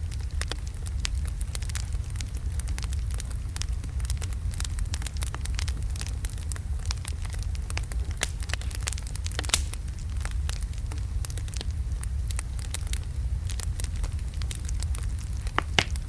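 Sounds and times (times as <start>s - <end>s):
fire rumbling: 0.0s - 16.0s
wood fire crackling and popping: 0.0s - 16.0s.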